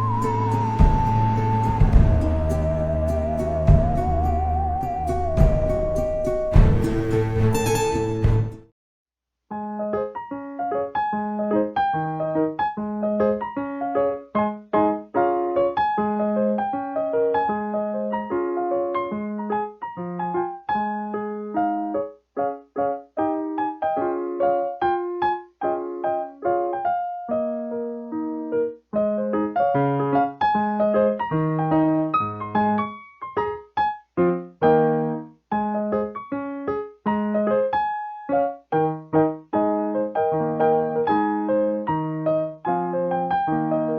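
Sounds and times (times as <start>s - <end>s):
solo piano melody: 0.0s - 8.7s, 9.5s - 43.9s.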